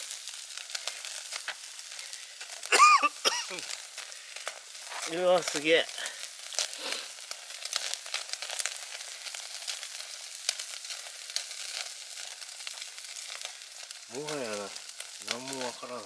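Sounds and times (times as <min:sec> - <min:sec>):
steaks sizzling on grill: 0:00.0 - 0:16.0.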